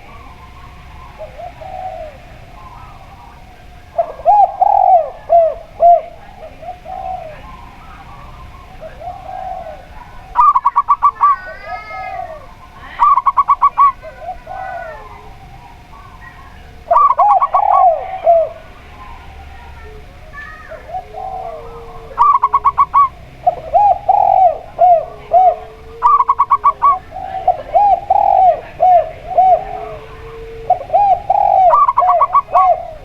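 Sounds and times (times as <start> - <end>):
doves cooing: 0.0 - 33.0.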